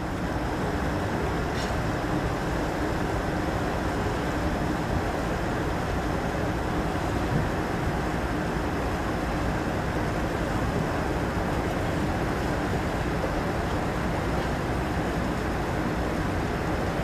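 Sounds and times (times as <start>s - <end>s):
ship low rumble: 0.0s - 17.0s.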